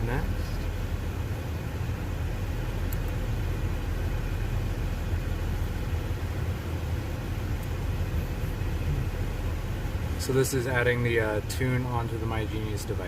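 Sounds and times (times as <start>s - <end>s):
air conditioning running: 0.0s - 13.0s
car engine idling: 0.0s - 13.0s.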